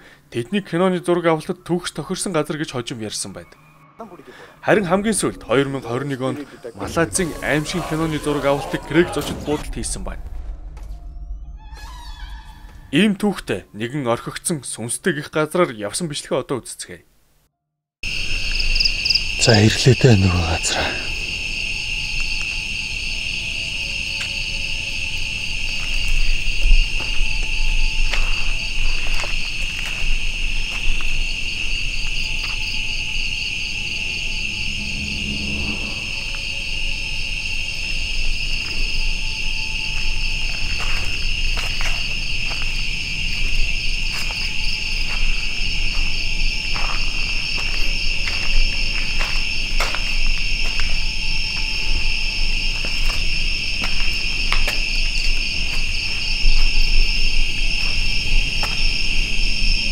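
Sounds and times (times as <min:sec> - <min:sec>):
insects trilling: 0:00.0 - 0:10.2, 0:18.0 - 0:59.9
pulsing insect layer: 0:04.0 - 0:12.6, 0:18.0 - 0:59.9.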